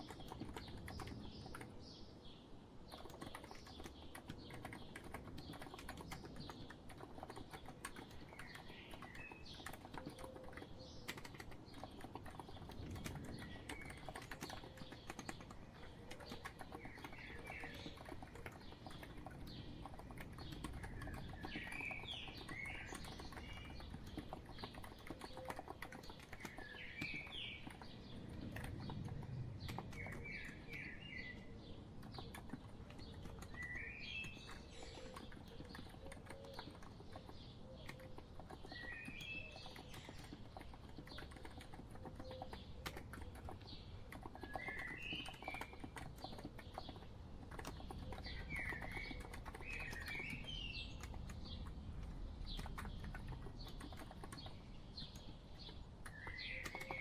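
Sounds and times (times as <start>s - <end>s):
soft keyboard typing: 0.0s - 2.0s, 2.8s - 57.0s
birds chirping: 0.0s - 57.0s.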